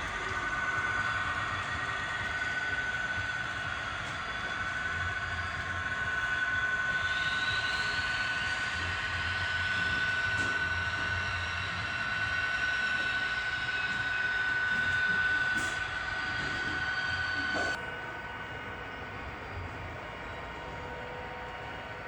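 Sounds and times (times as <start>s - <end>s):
model train whine: 0.0s - 22.0s.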